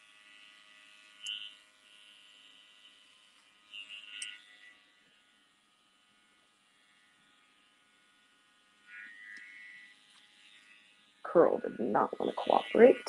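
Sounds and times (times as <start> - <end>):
hair clipper buzzing: 0.0 - 13.0.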